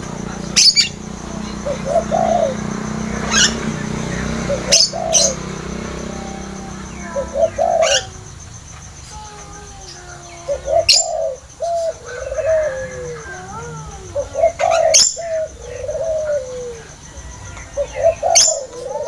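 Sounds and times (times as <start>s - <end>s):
small chirps: 0.0s - 15.5s
doves cooing: 0.0s - 19.0s.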